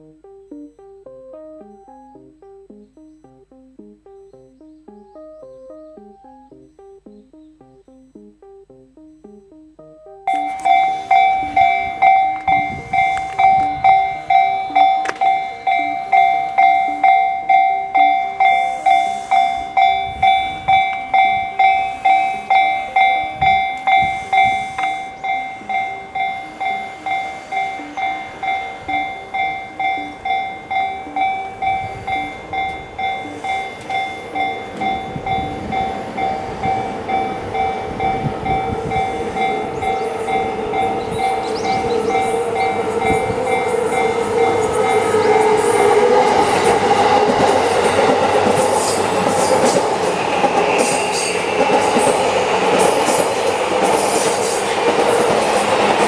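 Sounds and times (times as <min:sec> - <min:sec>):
level crossing alarm ringing: 0:00.0 - 0:56.0
train rumble: 0:10.3 - 0:56.0.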